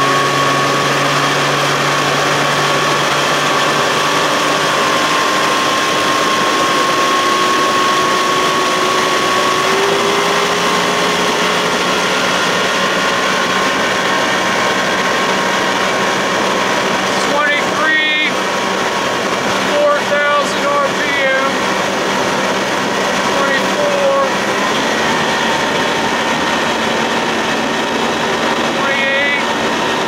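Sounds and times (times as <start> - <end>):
outboard motor running: 0.0 - 30.0
rush of wind and water: 0.0 - 30.0.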